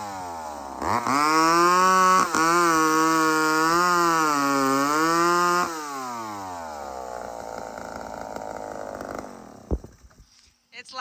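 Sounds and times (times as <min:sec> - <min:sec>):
two-stroke chainsaw revving: 0:00.0 - 0:10.2.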